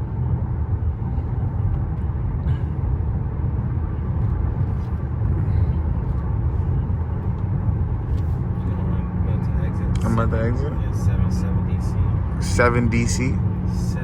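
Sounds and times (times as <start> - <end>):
road and tyre rumble in car: 0.0 - 14.0.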